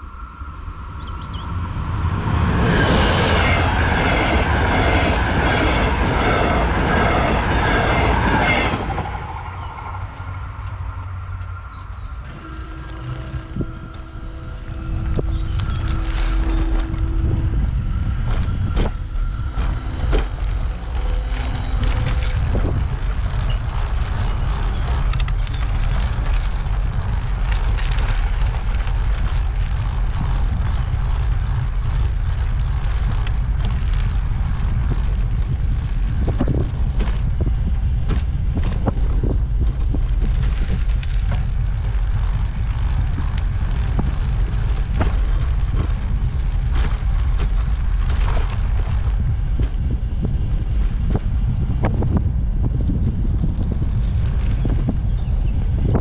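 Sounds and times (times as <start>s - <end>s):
wind buffeting microphone: 0.0s - 56.0s
tyres rumbling on path: 0.7s - 56.0s.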